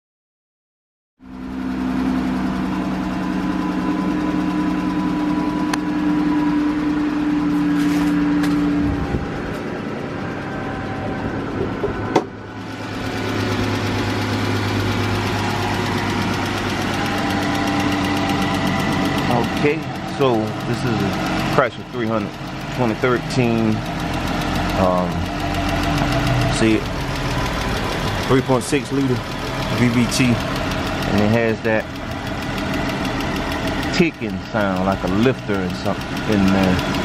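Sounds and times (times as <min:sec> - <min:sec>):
car engine running: 0:01.2 - 0:37.0
engine ticking: 0:01.3 - 0:37.0.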